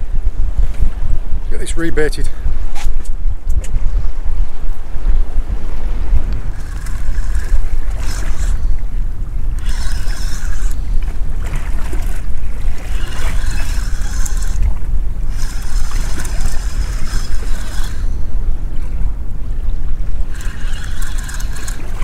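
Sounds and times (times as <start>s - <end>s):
wind buffeting microphone: 0.0s - 22.0s
water washing against hull: 2.5s - 22.0s.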